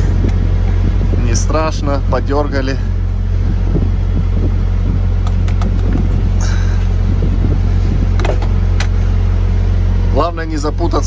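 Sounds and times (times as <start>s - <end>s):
engine idling hum: 0.0s - 11.0s.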